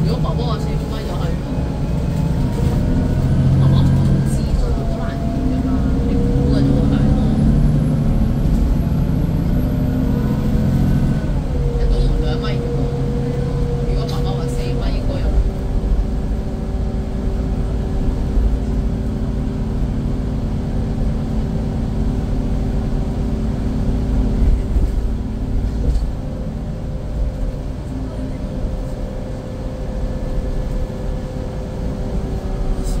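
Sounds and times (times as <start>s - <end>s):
coach diesel engine drone: 0.0s - 33.0s.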